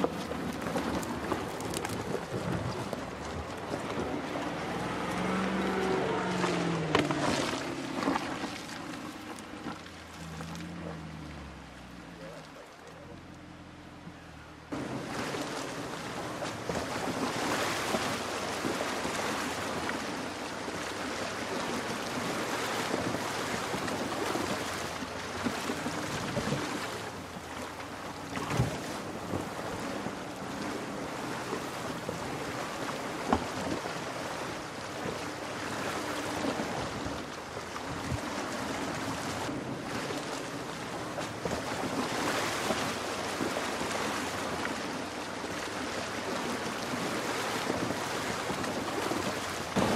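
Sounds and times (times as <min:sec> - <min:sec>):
rushing stream water: 0:00.0 - 0:49.9
vehicle splashing through water: 0:00.0 - 0:49.9.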